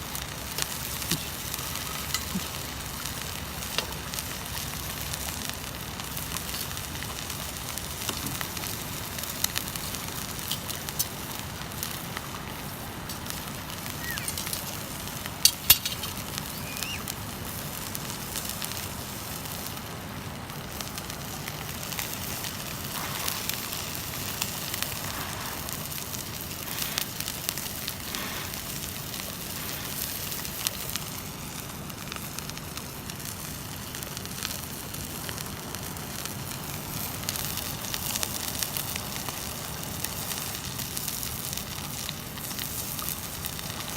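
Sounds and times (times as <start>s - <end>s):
sharp fire pops: 0.0s - 43.9s
steak sizzling in a skillet: 0.0s - 43.9s
wood fire crackling: 0.0s - 43.9s.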